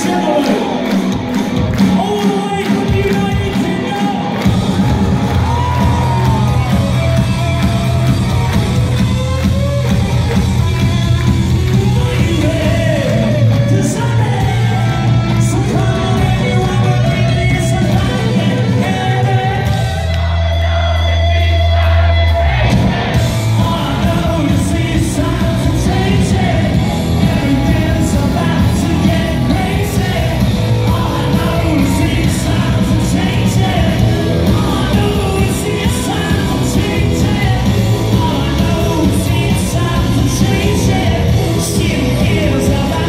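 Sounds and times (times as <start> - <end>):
lead vocals: 0.0 - 43.0
live rock band playing: 0.0 - 43.0.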